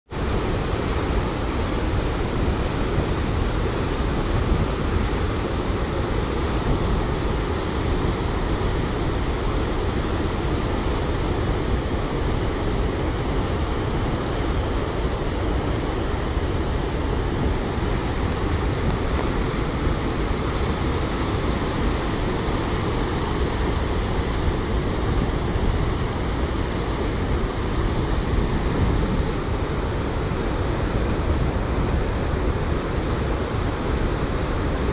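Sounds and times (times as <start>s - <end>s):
water rushing through floodgates: 0.1s - 34.9s.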